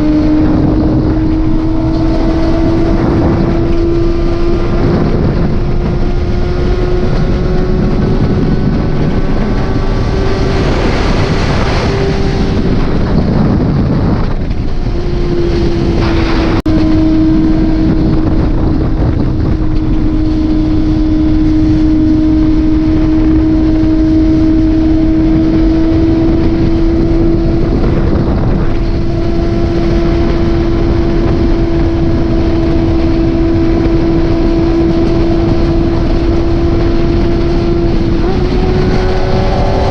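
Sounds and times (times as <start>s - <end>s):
motorcycle engine hum: 0.0s - 39.9s
wind rush: 0.0s - 39.9s.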